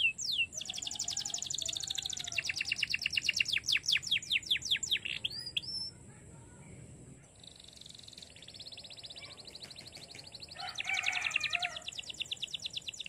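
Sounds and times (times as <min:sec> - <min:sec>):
canary singing: 0:00.0 - 0:06.0, 0:07.4 - 0:13.0.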